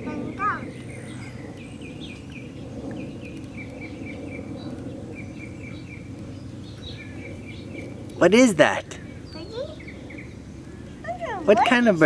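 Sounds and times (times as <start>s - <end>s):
small bird chirping: 0.0s - 8.2s, 9.0s - 11.6s
low background noise: 0.0s - 12.0s.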